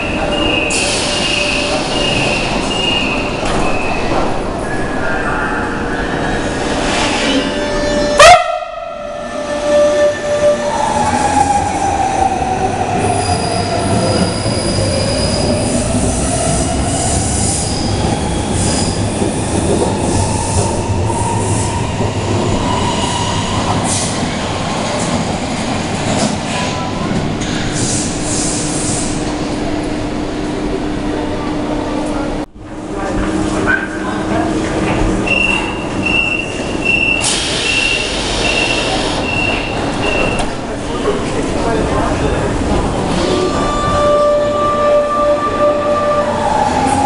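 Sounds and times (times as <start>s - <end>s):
wheel noise and rail squeal: 0.0s - 25.2s, 25.9s - 29.6s, 33.0s - 47.0s.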